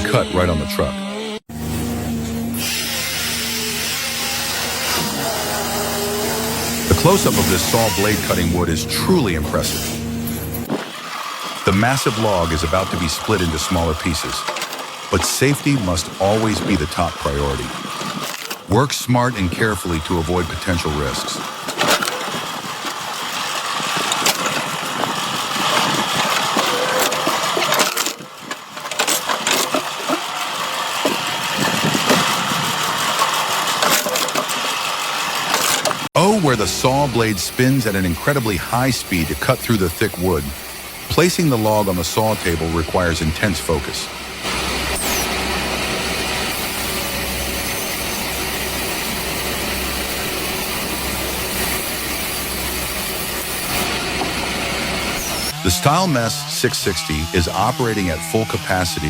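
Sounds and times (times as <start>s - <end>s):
logging machinery engine: 0.0s - 59.0s
power saw cutting wood: 0.0s - 59.0s.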